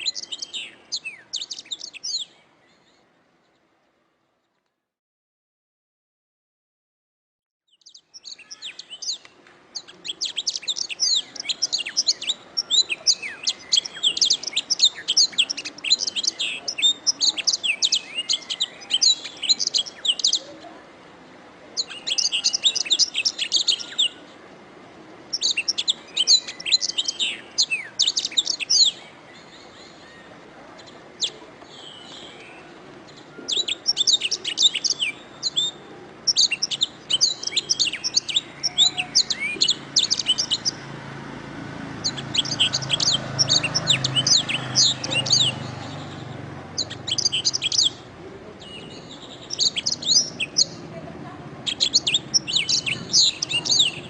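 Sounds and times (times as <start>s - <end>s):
canary singing trills: 0.0s - 3.0s, 7.7s - 20.7s, 21.8s - 24.3s, 25.2s - 50.9s, 51.5s - 54.0s.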